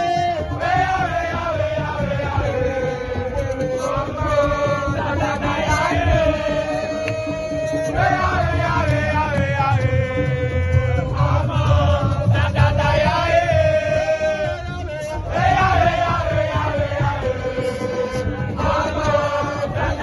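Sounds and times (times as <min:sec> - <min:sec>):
crowd chanting: 0:00.0 - 0:20.0
music with heavy low beat: 0:00.0 - 0:20.0.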